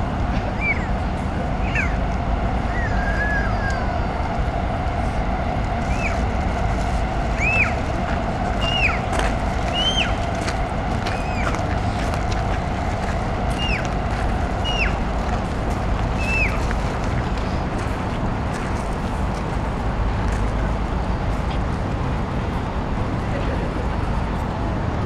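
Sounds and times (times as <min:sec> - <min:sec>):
city background rumble: 0:00.0 - 0:25.0.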